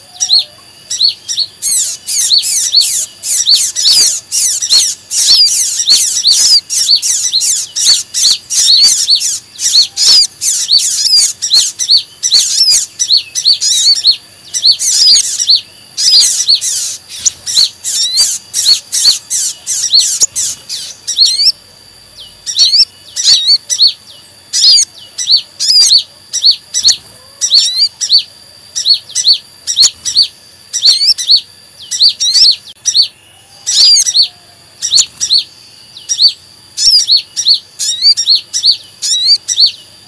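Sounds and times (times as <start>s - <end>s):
high thin bird chirps: 0.0s - 40.0s.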